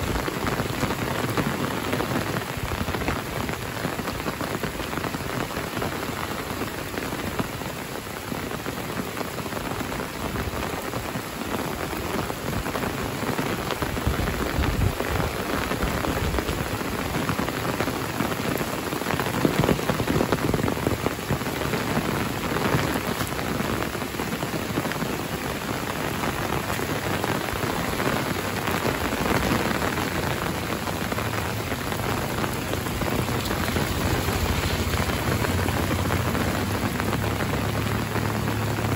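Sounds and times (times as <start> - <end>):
rain falling on trees and rooftops: 0.0 - 38.9.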